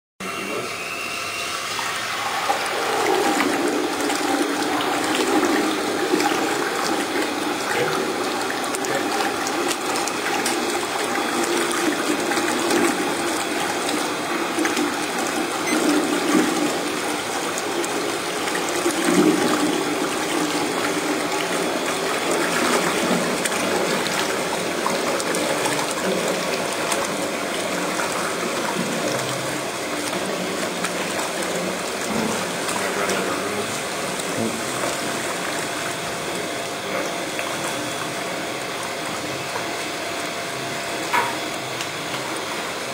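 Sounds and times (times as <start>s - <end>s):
mixer churning water: 0.2s - 42.9s.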